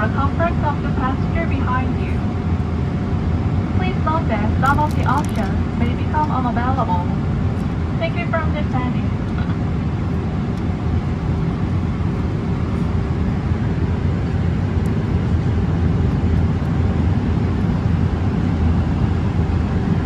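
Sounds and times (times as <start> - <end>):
airliner cabin engine rush: 0.0 - 20.0
faint steady hum: 0.0 - 20.0.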